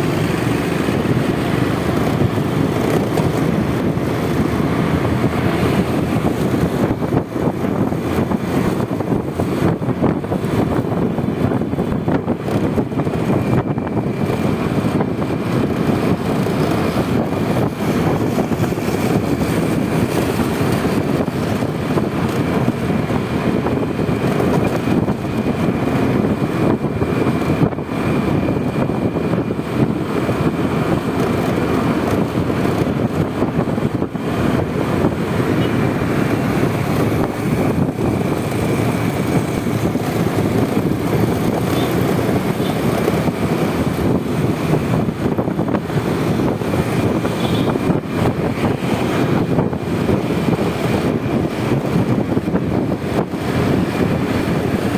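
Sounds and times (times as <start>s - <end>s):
scooter engine running: 0.0s - 54.9s
surrounding traffic: 0.0s - 54.9s
wind rushing over microphone: 0.0s - 54.9s.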